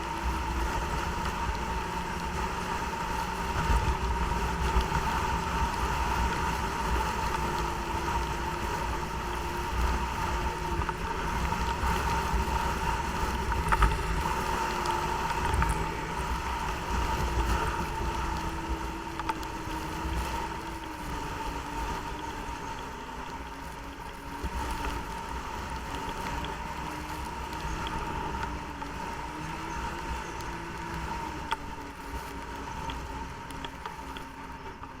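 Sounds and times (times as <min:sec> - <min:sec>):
high whine: 0:00.0 - 0:35.0
snowmobile engine running: 0:00.0 - 0:35.0.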